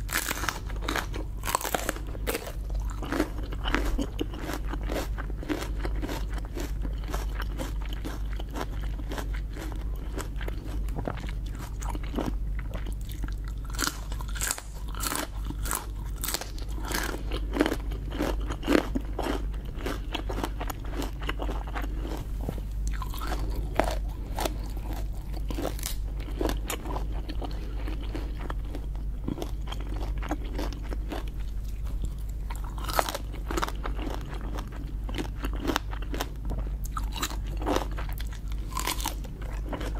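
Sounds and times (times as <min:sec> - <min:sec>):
chewing and crunching lobster: 0:00.0 - 0:39.9.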